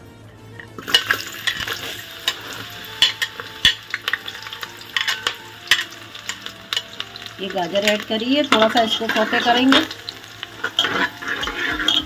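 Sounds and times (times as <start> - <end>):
carrots sizzling in hot oil: 0.8 - 12.0
oil crackling and popping: 0.8 - 12.0.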